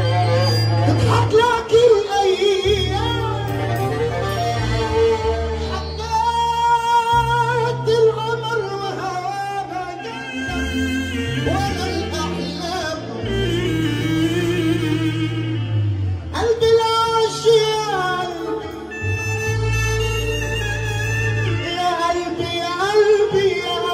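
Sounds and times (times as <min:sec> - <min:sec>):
electronic keyboard accompaniment: 0:00.0 - 0:23.9
man singing through microphone: 0:00.0 - 0:23.9.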